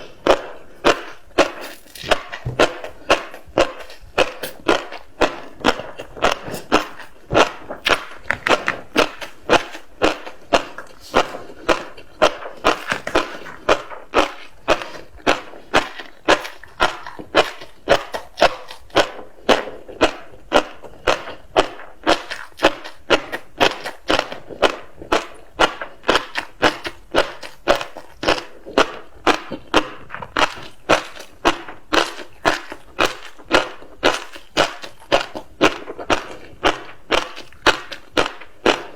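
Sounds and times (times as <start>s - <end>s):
fish roe popping while chewed: 0.0s - 38.9s.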